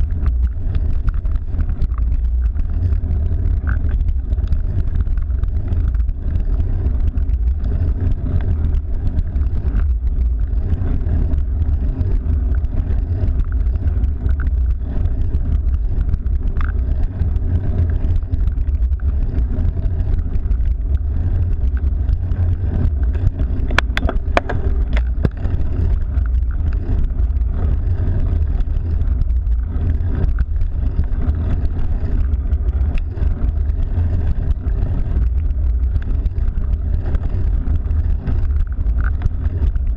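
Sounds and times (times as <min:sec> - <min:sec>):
tyre and road noise: 0:00.0 - 0:39.9
wind buffeting microphone: 0:00.0 - 0:39.9.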